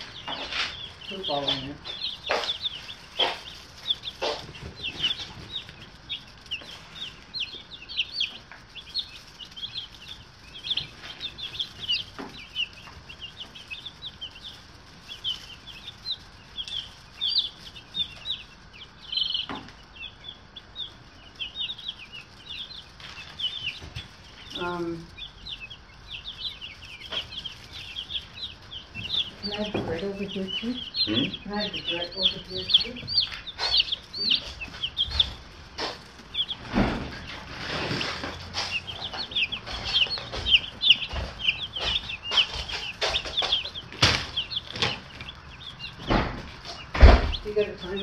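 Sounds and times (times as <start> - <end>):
chicks peeping: 0.0 - 48.0.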